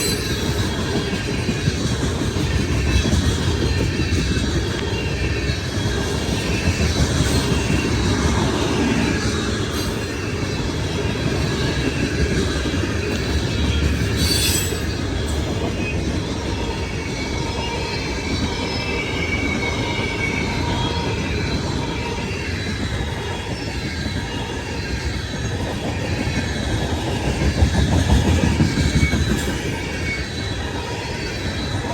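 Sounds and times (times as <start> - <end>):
train wheels rumbling on rail: 0.0 - 31.9
wheels squealing: 0.0 - 31.9.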